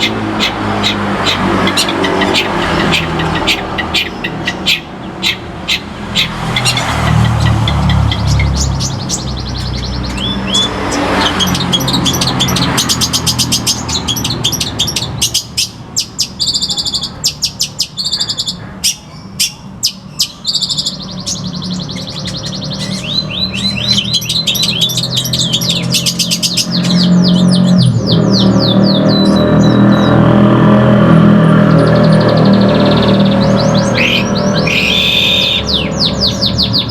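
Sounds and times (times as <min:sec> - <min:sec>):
bird singing chirps and trills: 0:00.0 - 0:36.9.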